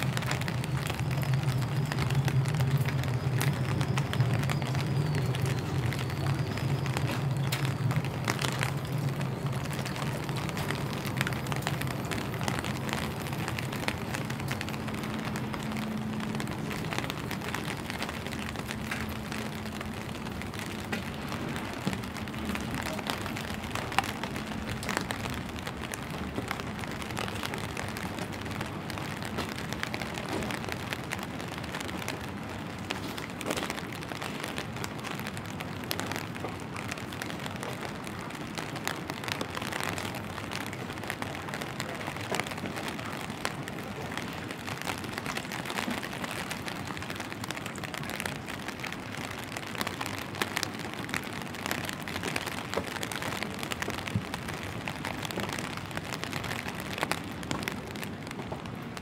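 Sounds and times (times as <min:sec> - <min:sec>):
rain falling on pavement: 0:00.0 - 0:59.0.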